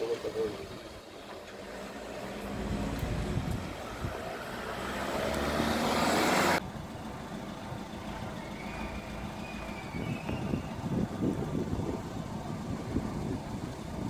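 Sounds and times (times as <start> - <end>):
street noise: 0.0 - 14.0
car driving by: 0.6 - 13.3.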